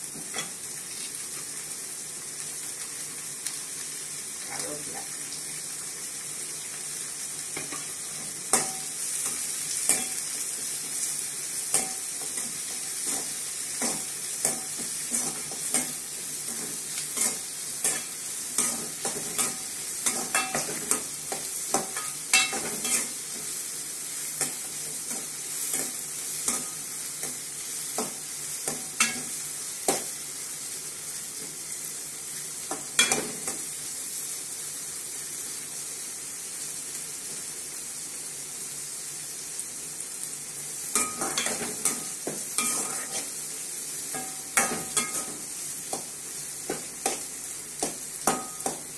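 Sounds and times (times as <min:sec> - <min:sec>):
shallots sizzling in pan: 0:00.0 - 0:48.9.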